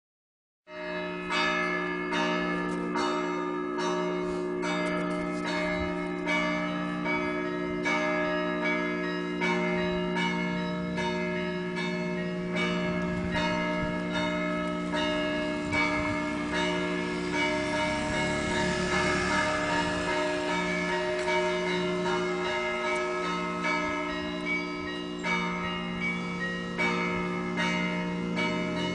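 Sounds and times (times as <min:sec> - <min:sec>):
church bells pealing: 0:00.7 - 0:28.9
low bells ringing: 0:00.7 - 0:28.9.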